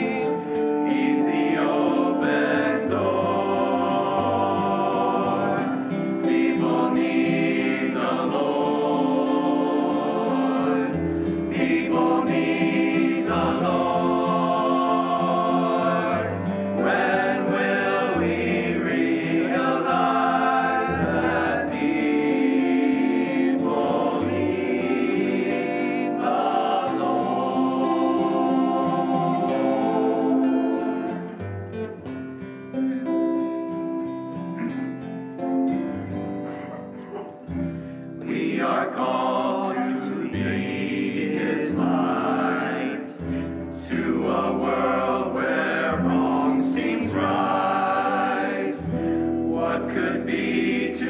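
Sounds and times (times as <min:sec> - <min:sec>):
men's choir singing in harmony: 0:00.0 - 0:31.8, 0:34.6 - 0:51.0.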